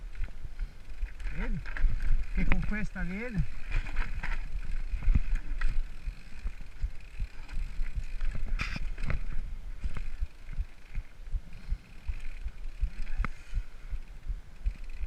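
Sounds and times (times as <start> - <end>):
bike knocking and clattering: 0.1 - 13.7.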